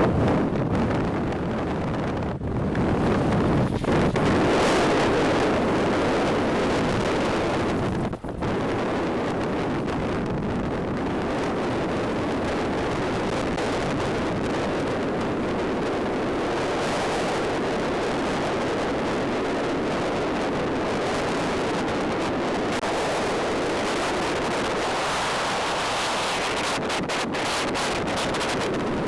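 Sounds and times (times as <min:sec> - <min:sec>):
blizzard wind buffeting microphone: 0:00.0 - 0:29.0.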